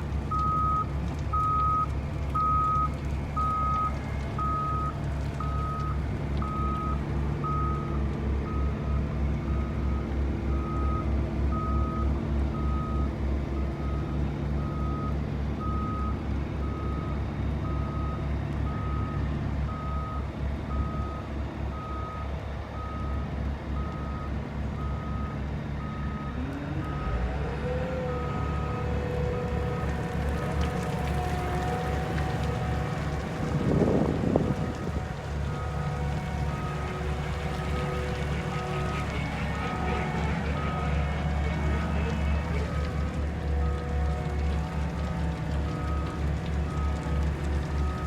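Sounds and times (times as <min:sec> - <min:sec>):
diesel engine low rumble: 0:00.0 - 0:48.0.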